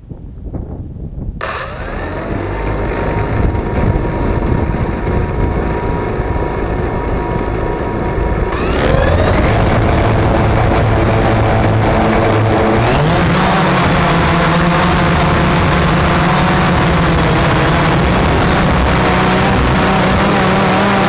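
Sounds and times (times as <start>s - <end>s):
drone motors whining: 1.4s - 21.0s.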